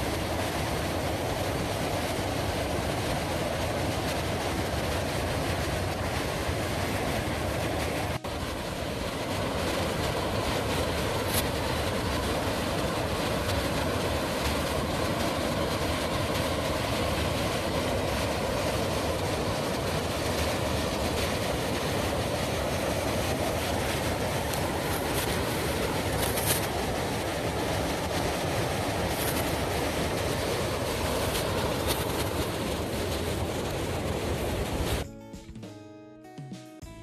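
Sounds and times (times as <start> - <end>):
whitewater rushing: 0.0 - 35.0.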